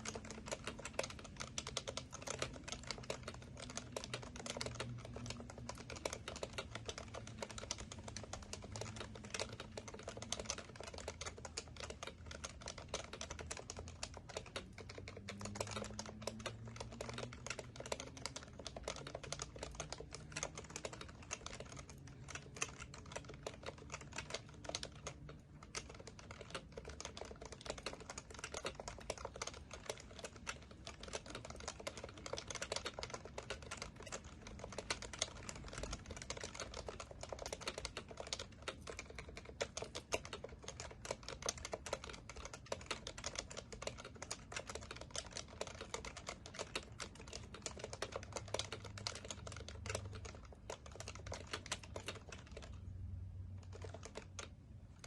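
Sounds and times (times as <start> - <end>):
fast keyboard typing: 0.0 - 55.0.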